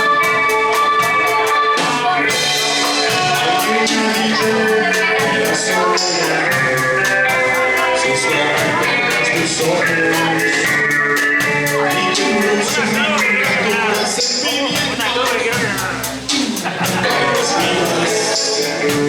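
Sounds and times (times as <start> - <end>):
person singing: 0.0 - 19.0
rock band playing: 0.0 - 19.0.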